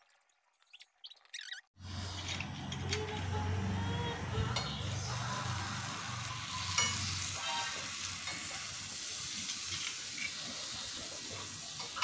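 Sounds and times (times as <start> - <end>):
skewers sizzling on grill plate: 1.8 - 12.0.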